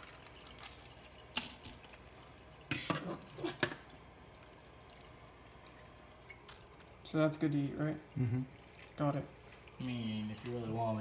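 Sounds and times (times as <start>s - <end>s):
water dripping: 0.0s - 11.0s.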